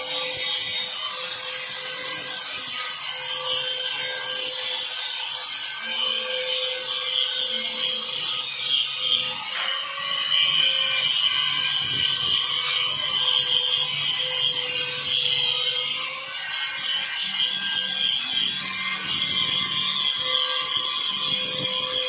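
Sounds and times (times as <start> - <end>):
angle grinder grinding metal: 0.0 - 22.0.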